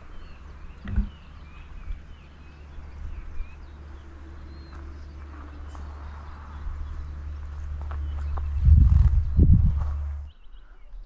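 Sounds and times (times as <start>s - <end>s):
low steady rumble: 0.0s - 10.4s
small birds chirping: 0.0s - 11.0s.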